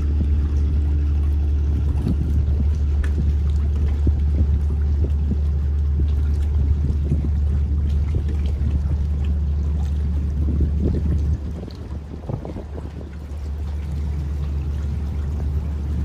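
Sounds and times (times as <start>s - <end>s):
ship diesel engine drone: 0.0s - 16.0s
water churning along hull: 0.0s - 16.0s.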